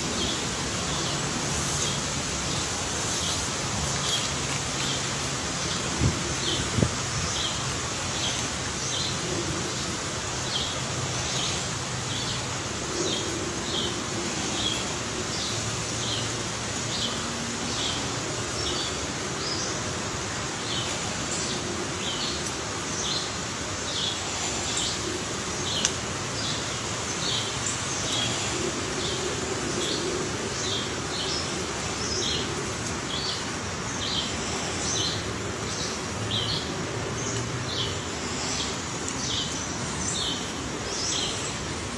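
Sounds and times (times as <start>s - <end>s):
outdoor background noise: 0.0s - 41.9s.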